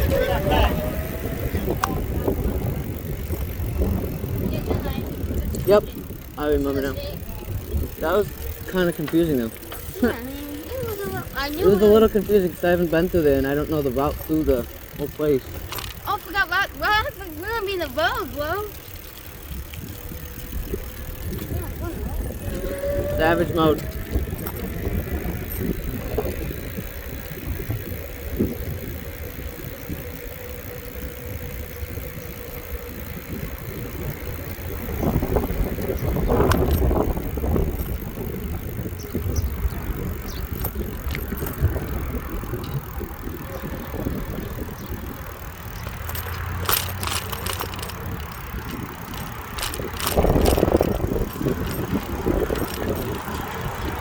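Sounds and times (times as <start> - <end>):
wind rumble on microphone: 0.0 - 16.3, 16.9 - 54.0
road noise: 0.0 - 54.0
sharp rattling clicks: 0.0 - 54.0.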